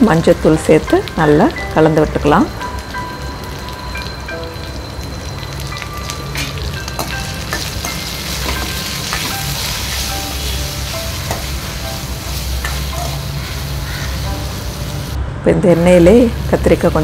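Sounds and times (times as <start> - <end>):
vegetables frying in oil: 0.0 - 15.2, 15.8 - 17.0.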